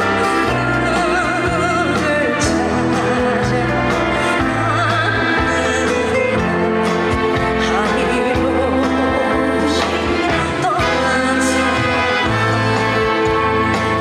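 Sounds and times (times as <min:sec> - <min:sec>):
bass line: 0:00.0 - 0:14.0
lead melody with vibrato: 0:00.0 - 0:14.0.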